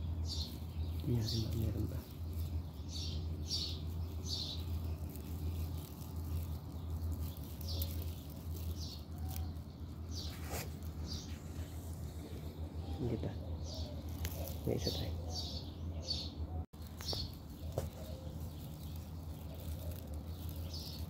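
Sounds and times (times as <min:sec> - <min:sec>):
bird chirping: 0:00.0 - 0:21.0
steady low hum: 0:00.0 - 0:21.0.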